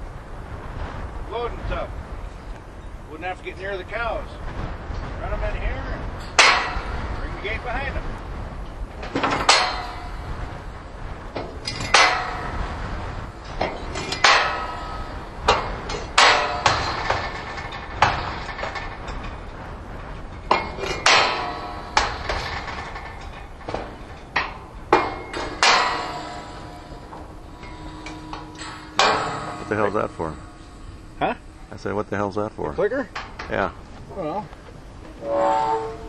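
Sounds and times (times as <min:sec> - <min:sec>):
metal gate clanging: 0:05.2 - 0:36.0.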